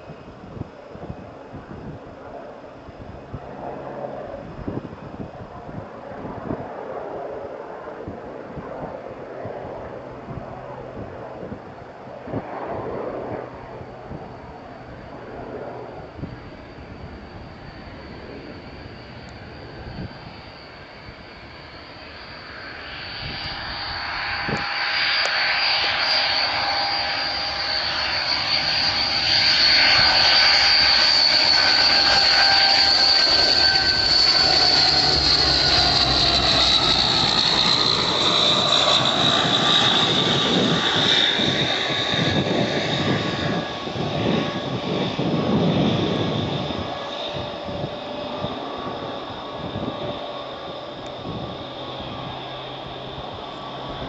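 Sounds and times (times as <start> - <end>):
turboprop aircraft passing overhead: 0.0 - 54.0.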